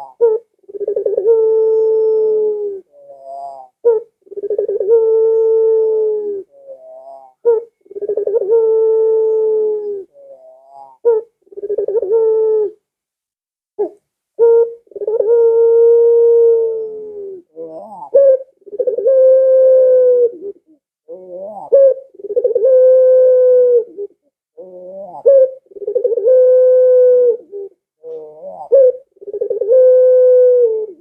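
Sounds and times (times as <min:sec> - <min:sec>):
dove cooing: 0:00.0 - 0:12.8, 0:13.8 - 0:31.0.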